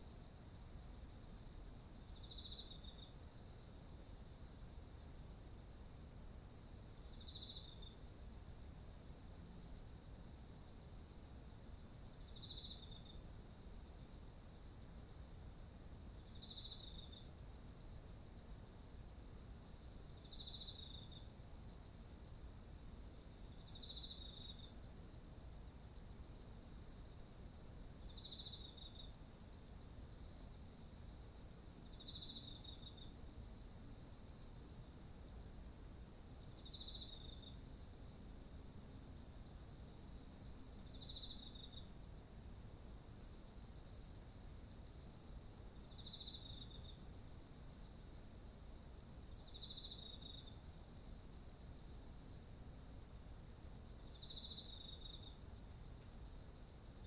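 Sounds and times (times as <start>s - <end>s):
insect low chirp: 0.0s - 57.0s.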